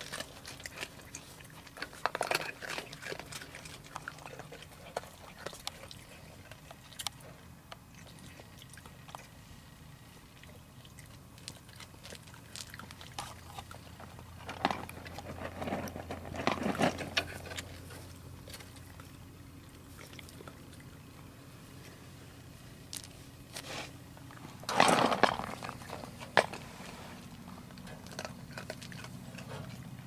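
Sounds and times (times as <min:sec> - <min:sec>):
crunching and scraping: 0:00.0 - 0:09.3, 0:10.1 - 0:30.0
faint low hum: 0:00.0 - 0:30.0.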